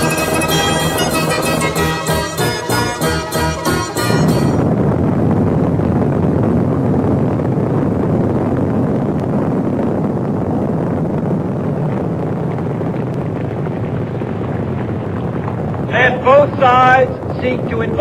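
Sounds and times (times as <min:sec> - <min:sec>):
rocket engines rumbling: 0:00.0 - 0:18.0.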